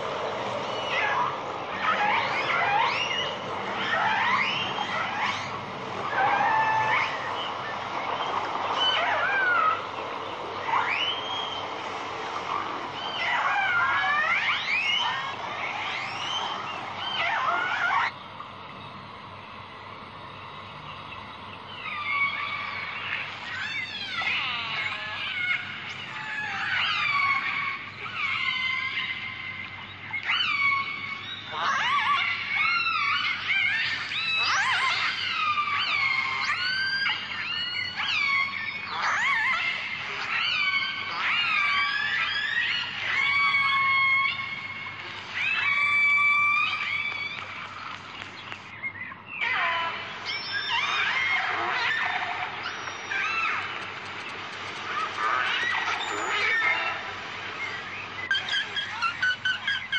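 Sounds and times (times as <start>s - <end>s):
whale whistles and squeals: 0.0s - 18.2s, 21.7s - 59.9s.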